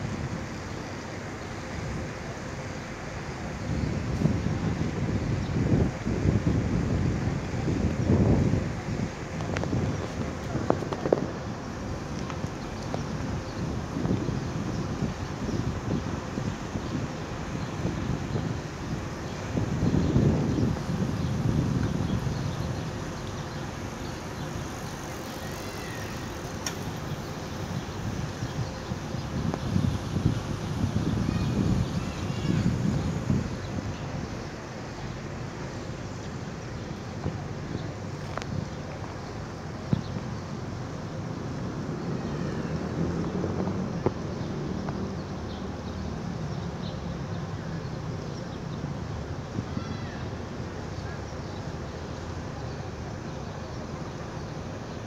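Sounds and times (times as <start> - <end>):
city traffic hum: 0.0 - 55.0.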